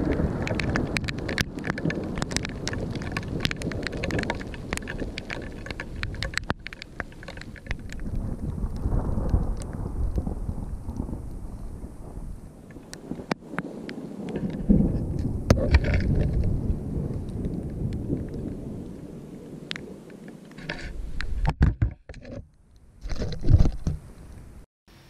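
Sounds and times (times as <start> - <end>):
thunder rumbling: 0.0 - 21.4
rain falling: 0.0 - 21.6.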